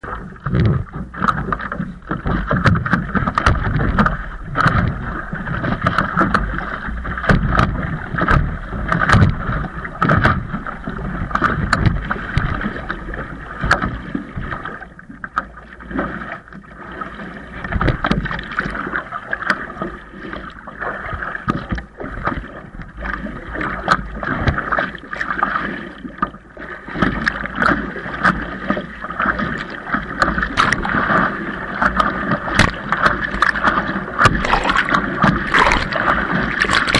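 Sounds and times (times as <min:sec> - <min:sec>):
windsurf board rushing and rattling: 0:00.0 - 0:36.9.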